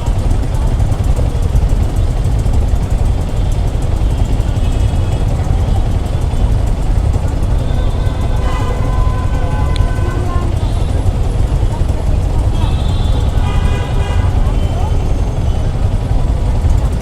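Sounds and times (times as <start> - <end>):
motorcycle engine rumble: 0.0 - 17.0
road noise: 0.0 - 17.0.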